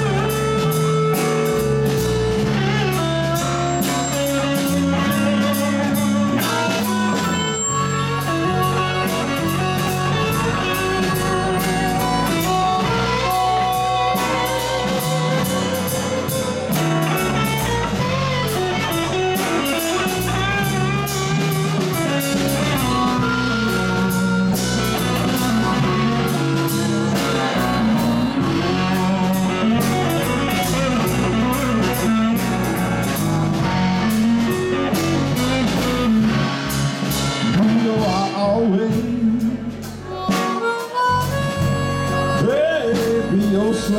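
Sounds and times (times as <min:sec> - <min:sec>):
drum kit: 0:00.0 - 0:43.9
electric guitars: 0:00.0 - 0:43.9
harmonica through microphone: 0:00.0 - 0:43.9.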